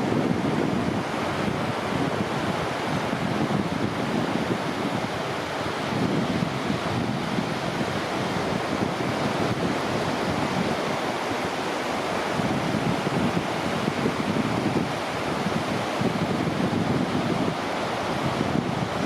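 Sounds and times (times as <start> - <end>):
surf washing onto sandy beach: 0.0 - 19.0.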